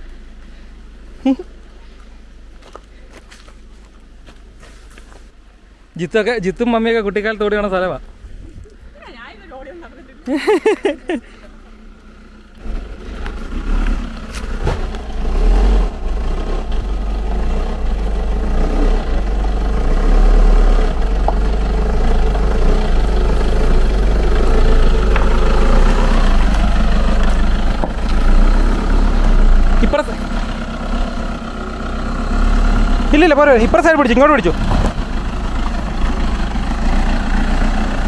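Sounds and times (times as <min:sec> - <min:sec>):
car engine labouring: 0:00.0 - 0:38.0.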